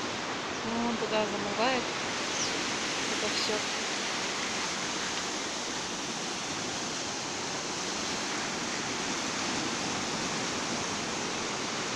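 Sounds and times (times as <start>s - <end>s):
fast river current rushing: 0.0s - 11.9s.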